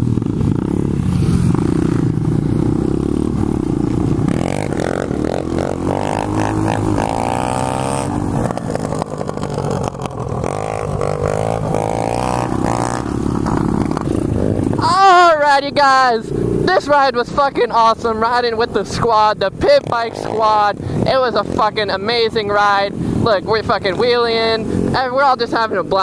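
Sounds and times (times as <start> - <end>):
motorbike engine revving: 0.0 - 26.0
other motorbike engines: 0.0 - 26.0.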